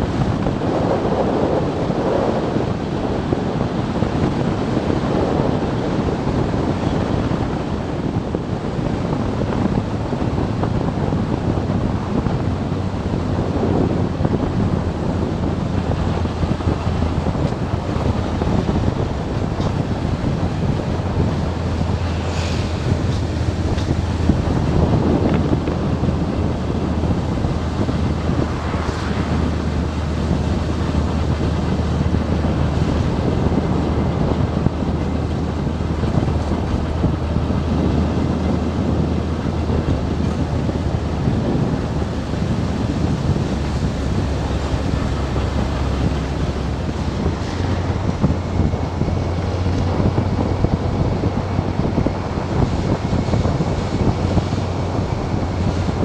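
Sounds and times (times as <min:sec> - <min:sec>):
wind buffeting microphone: 0:00.0 - 0:56.0
motorcycle engine humming: 0:03.8 - 0:56.0.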